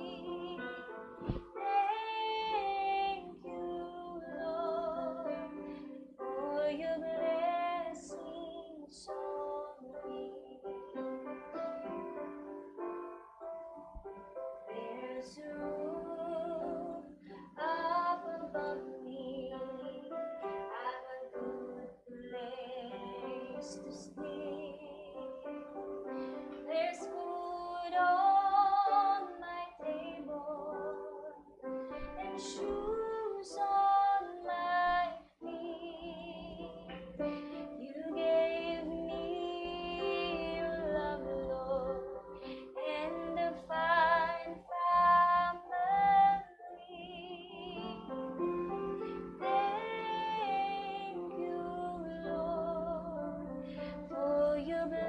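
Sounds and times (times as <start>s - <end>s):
woman singing with vibrato: 0.0s - 11.0s, 14.7s - 25.6s, 26.2s - 55.0s
piano chords: 0.0s - 55.0s.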